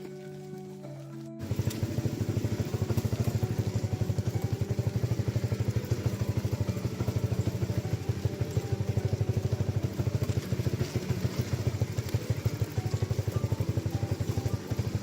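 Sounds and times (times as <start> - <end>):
small engine chugging: 0.0 - 15.0.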